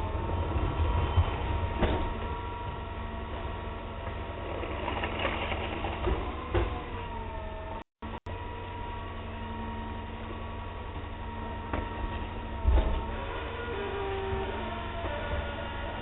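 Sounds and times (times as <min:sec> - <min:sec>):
garbage truck running: 0:00.0 - 0:16.0
hydraulic whine: 0:00.0 - 0:16.0.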